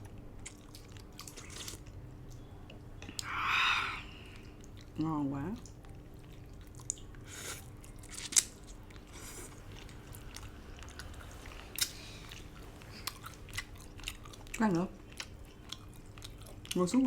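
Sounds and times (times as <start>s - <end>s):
chewing and biting food: 0.0s - 2.4s, 4.4s - 17.0s.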